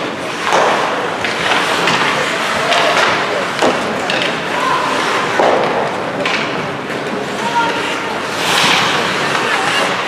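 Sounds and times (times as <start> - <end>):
hockey sticks and puck clacking: 0.0 - 10.0
skate blades scraping ice: 0.0 - 10.0.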